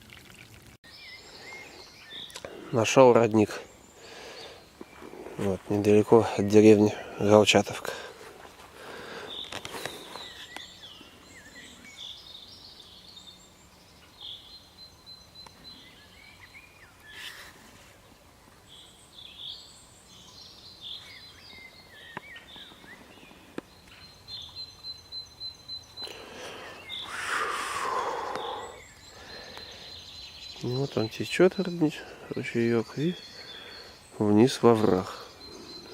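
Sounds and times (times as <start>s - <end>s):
small birds chirping: 0.8s - 35.9s.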